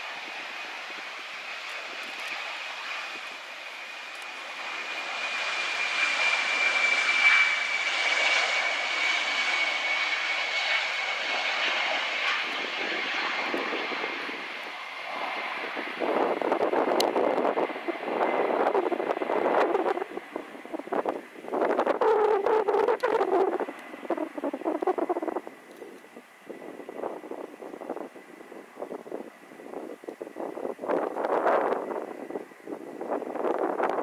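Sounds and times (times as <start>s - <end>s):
jet engines roaring on takeoff: 0.0s - 34.0s.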